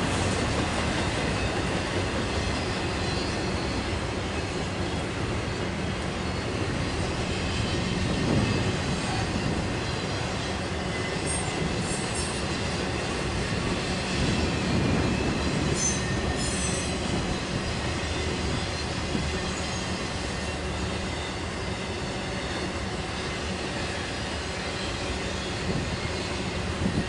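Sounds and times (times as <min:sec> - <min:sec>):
train wheels rumbling on rail: 0:00.0 - 0:27.0
high wheel squeals: 0:00.9 - 0:27.0.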